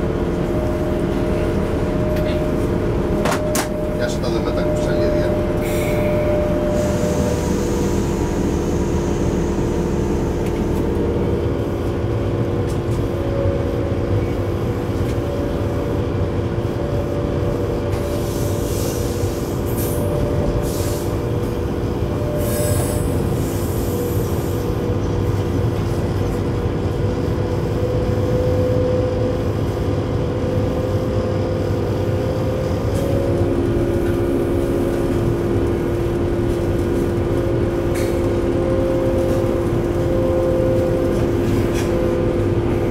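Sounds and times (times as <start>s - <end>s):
electric locomotive whine: 0.0s - 42.9s.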